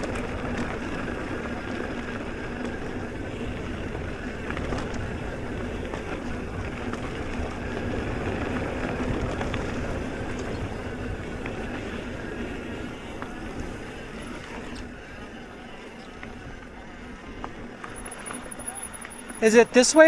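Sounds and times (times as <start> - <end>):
bike tyre rumble: 0.0 - 20.0.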